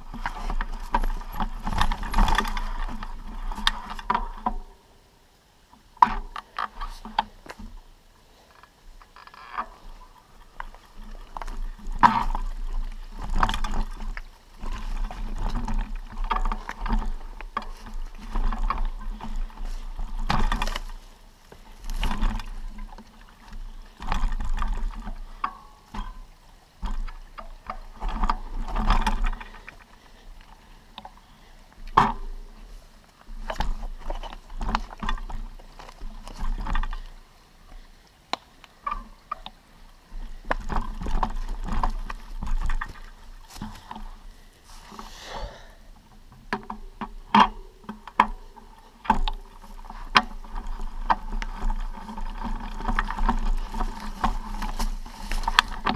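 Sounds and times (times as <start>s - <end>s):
footsteps on stones and leaves: 0.0s - 4.0s, 9.7s - 37.9s, 38.9s - 45.7s, 49.3s - 55.9s.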